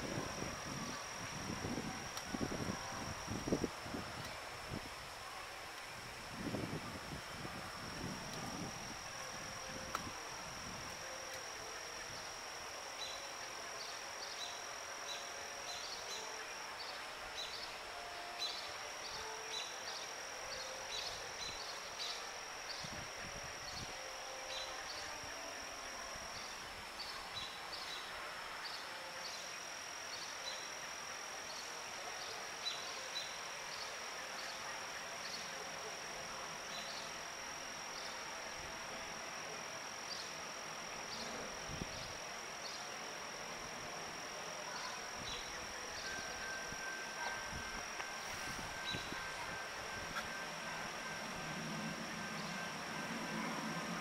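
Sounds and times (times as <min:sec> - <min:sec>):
faint background hiss: 0:00.0 - 0:54.0
high-pitched insect trill: 0:00.0 - 0:54.0.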